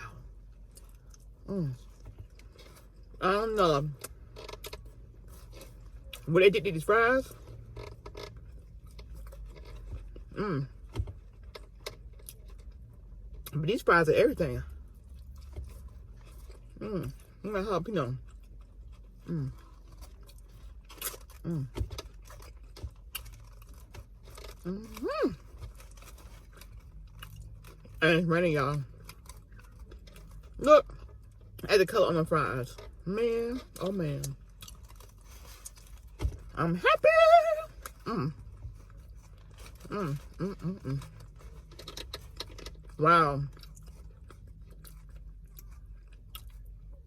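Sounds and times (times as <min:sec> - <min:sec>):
person chewing fries: 0:00.0 - 0:47.0.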